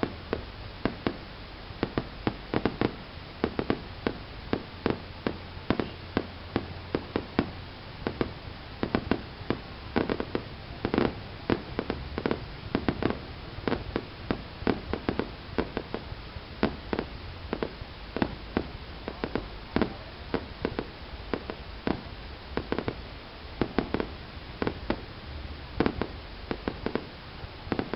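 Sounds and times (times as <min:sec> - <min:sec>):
fireworks bangs and pops: 0:00.0 - 0:27.9.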